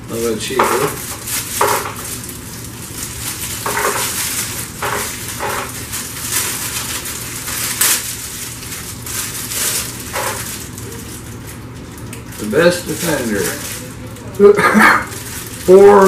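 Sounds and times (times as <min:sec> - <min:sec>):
plastic packaging crinkling: 0:00.1 - 0:16.0.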